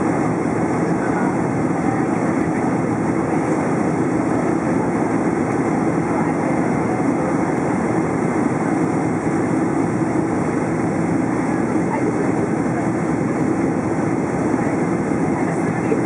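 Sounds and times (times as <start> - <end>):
airplane cabin drone: 0.0 - 16.0.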